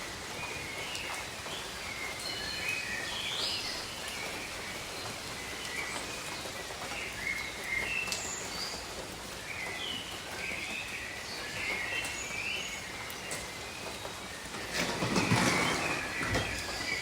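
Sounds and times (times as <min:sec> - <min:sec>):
rain falling on foliage: 0:00.0 - 0:15.0, 0:16.1 - 0:17.0.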